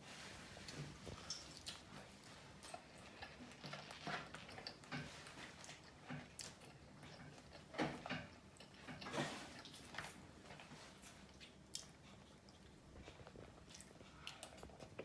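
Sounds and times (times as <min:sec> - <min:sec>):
person chewing fried chicken: 0:00.6 - 0:15.0.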